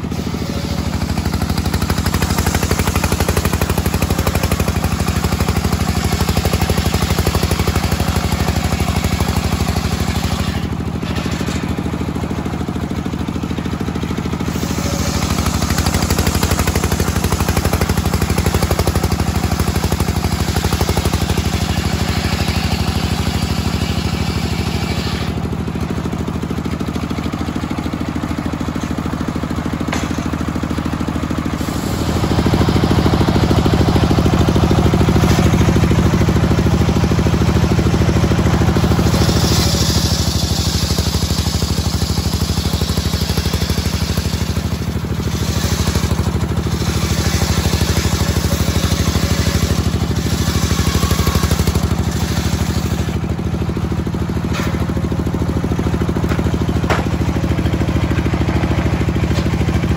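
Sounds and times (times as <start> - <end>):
circular saw cutting wood: 0.0 - 59.9.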